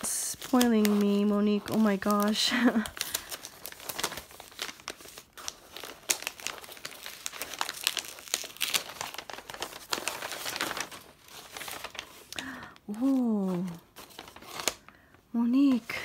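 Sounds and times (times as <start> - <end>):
paper crinkling and rustling: 0.0 - 16.0.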